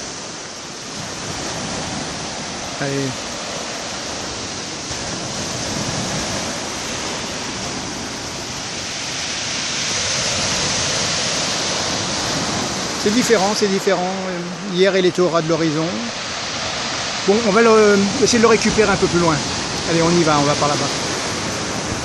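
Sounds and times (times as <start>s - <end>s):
surf washing against breakwater: 0.0s - 22.0s.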